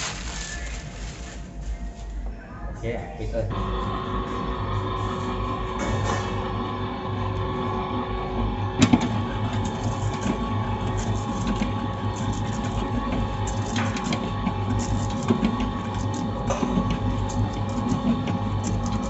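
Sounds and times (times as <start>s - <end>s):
electric mixer motor running: 3.5s - 19.0s.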